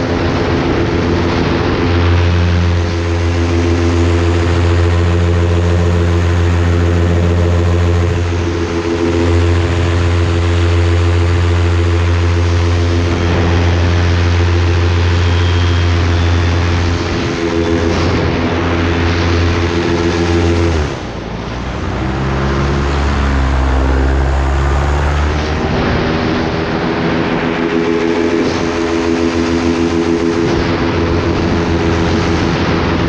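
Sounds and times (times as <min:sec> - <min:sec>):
engine droning: 0:00.0 - 0:33.0.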